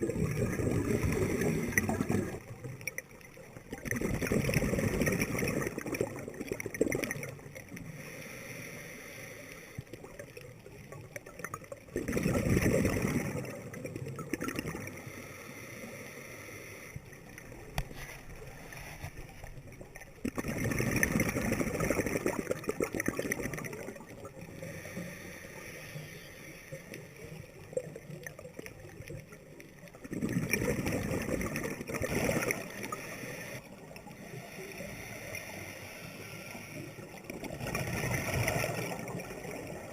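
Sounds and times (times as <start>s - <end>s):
scuba regulator air bubbles: 0.0s - 8.4s, 9.9s - 15.2s, 17.3s - 25.8s, 26.7s - 39.9s
faint steady hiss: 0.0s - 39.9s.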